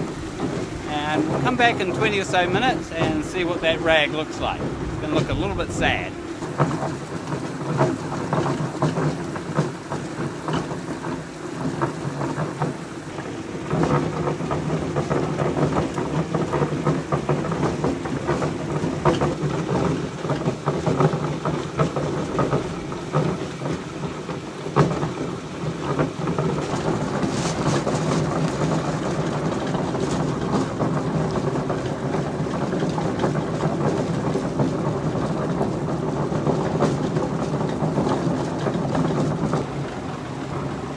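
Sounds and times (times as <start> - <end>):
machine hum: 0.0 - 40.9
rapid irregular thumping: 0.0 - 40.9.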